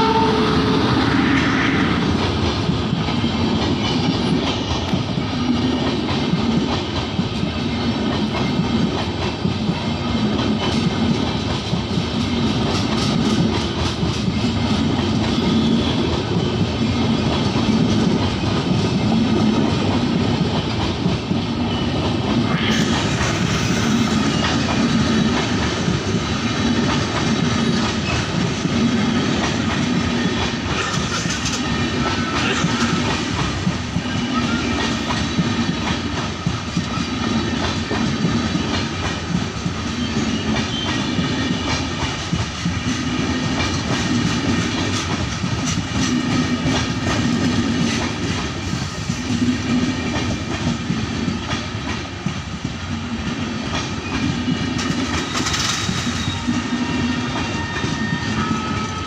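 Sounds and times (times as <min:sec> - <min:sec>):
train wheels clattering over rail joints: 0:02.1 - 0:59.0.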